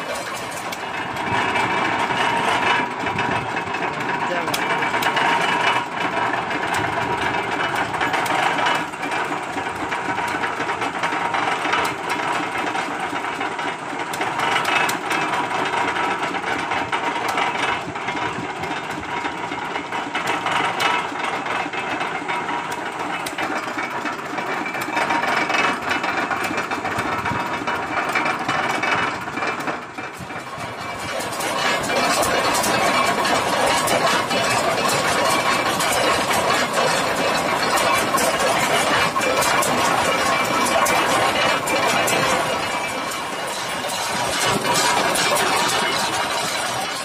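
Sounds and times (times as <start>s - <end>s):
diesel engine clattering: 0.0s - 47.0s.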